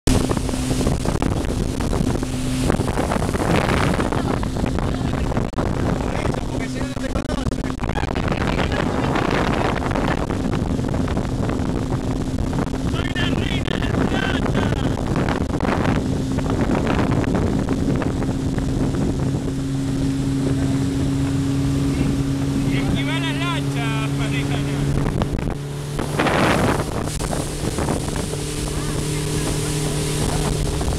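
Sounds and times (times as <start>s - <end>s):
boat engine hum: 0.0s - 30.9s
water noise: 0.0s - 30.9s
wind buffeting microphone: 0.0s - 30.9s.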